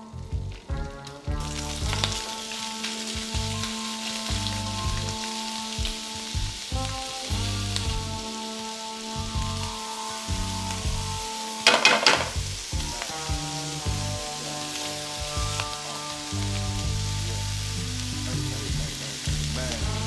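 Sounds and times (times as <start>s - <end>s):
music with a steady beat: 0.0s - 20.0s
food sizzling in a hot pan: 1.1s - 20.0s.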